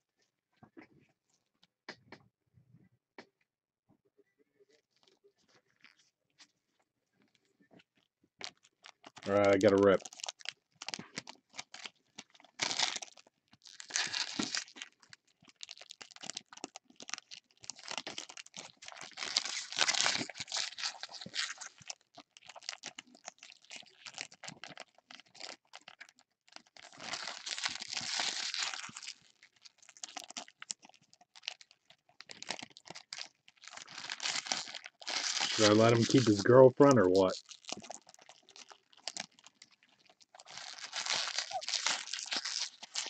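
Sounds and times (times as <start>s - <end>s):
foil wrappers crinkling and tearing: 8.4s - 43.0s.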